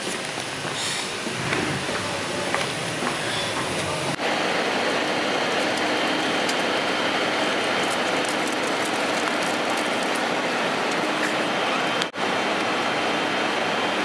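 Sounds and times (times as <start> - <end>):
airliner cabin noise: 0.0 - 14.0.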